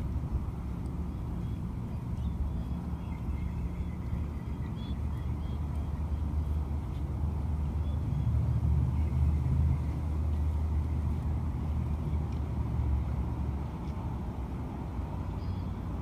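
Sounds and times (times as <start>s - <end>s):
low steady rumbling: 0.0s - 16.0s.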